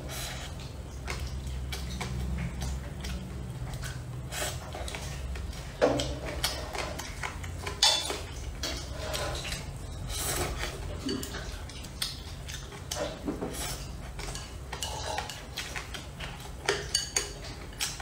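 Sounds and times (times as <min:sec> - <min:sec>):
chewing noodles: 0:00.0 - 0:18.0
steady low hum: 0:00.0 - 0:18.0.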